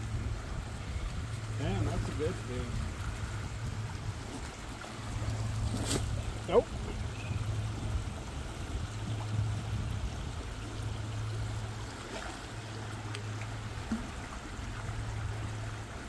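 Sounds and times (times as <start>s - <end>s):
steady low hum: 0.0s - 16.0s
stream water running: 0.0s - 16.0s.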